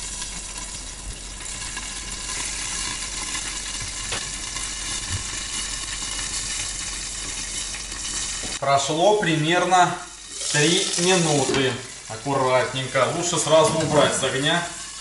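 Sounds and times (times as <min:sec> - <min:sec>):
dumplings sizzling in oil: 0:00.0 - 0:15.0.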